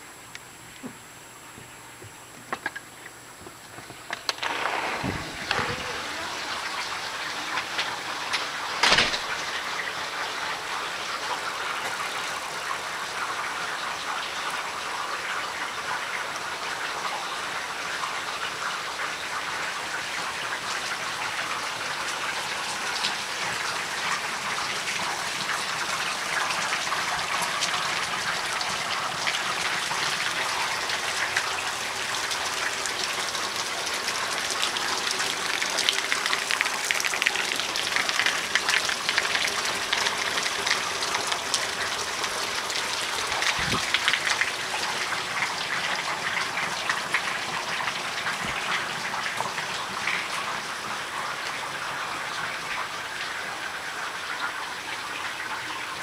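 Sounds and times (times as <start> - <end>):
rain falling: 2.6 - 56.0.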